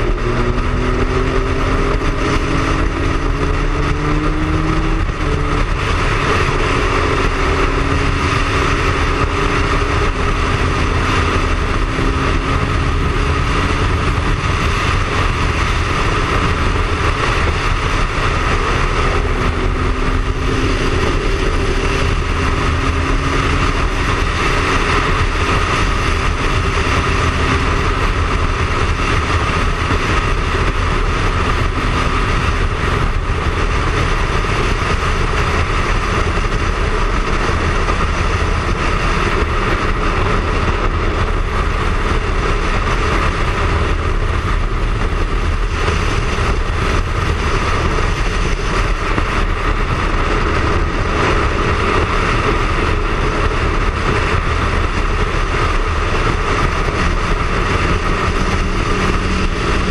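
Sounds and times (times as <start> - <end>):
motorcycle engine cruising: 0.0 - 59.9
wind rushing over camera: 0.0 - 59.9.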